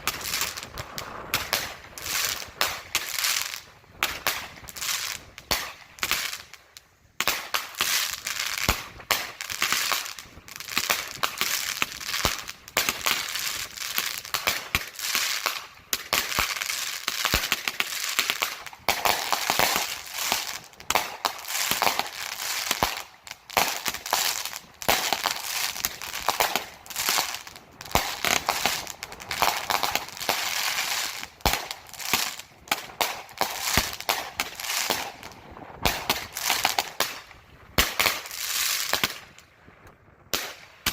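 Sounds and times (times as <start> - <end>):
fireworks crackling: 0.0 - 40.9.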